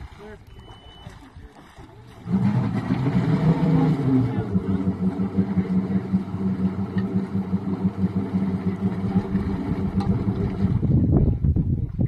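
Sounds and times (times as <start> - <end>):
motorboat engine running: 0.0 - 12.0
rough low rumble: 0.0 - 12.0.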